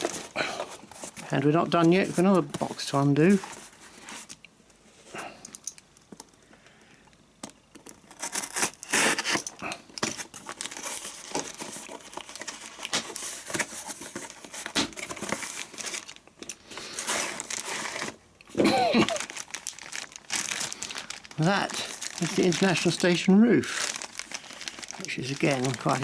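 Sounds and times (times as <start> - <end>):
packaging crinkling and tearing: 0.0 - 4.4, 7.7 - 26.0.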